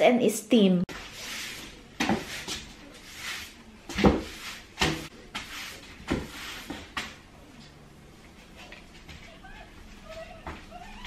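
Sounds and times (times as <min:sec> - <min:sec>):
broom sweeping tiled floor: 0:00.9 - 0:11.0.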